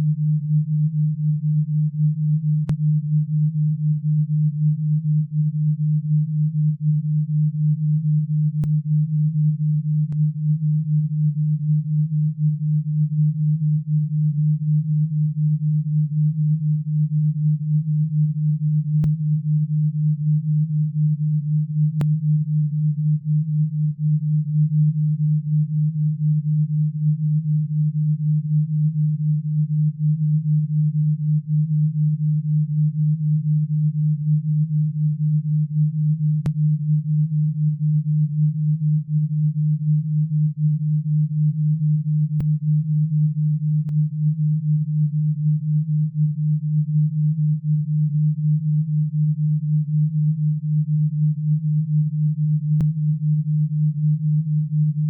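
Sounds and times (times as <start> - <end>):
pulsing low pure tone: 0.0 - 55.0.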